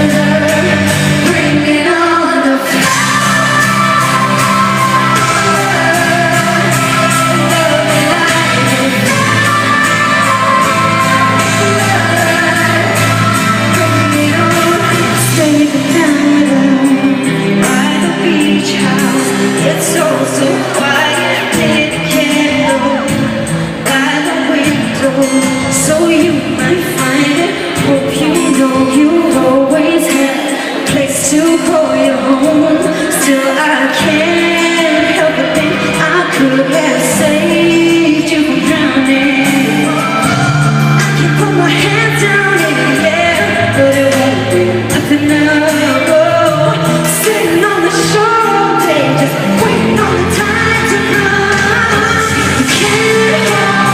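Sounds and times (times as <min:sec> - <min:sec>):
band accompaniment: 0:00.0 - 0:53.9
woman singing pop ballad: 0:00.0 - 0:53.9.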